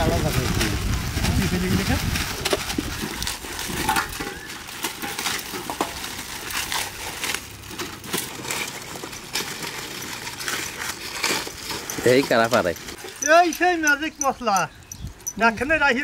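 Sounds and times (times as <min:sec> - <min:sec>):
dry noodles being crushed: 0:00.0 - 0:14.0
plastic packets crinkling: 0:00.0 - 0:14.4.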